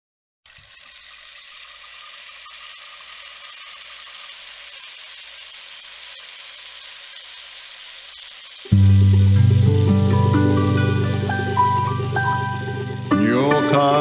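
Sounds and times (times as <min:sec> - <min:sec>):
rainstick pebbles trickling: 0:00.5 - 0:13.1.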